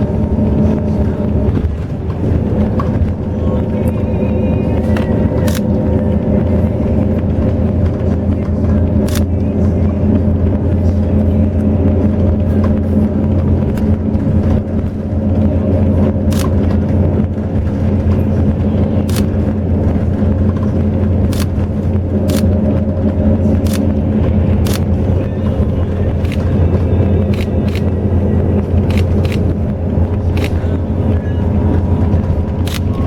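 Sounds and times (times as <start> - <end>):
bus engine drone: 0.0 - 33.0.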